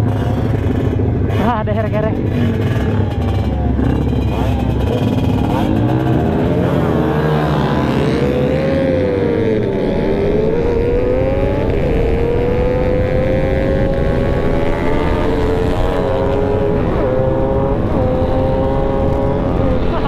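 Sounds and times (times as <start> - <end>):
motorcycle engine under throttle: 0.0 - 20.0.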